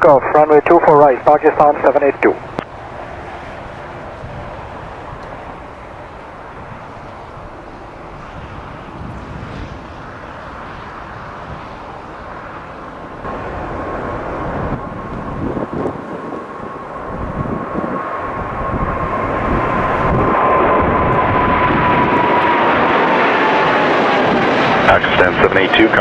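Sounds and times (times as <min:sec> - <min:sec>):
high engine whine: 0:00.0 - 0:26.0
jet engines roaring: 0:00.0 - 0:26.0.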